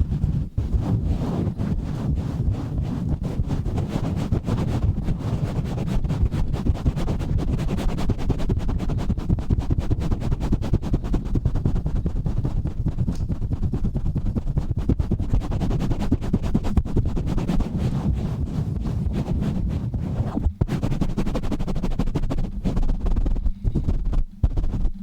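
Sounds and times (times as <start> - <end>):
rubbing on a microphone: 0.0 - 25.0.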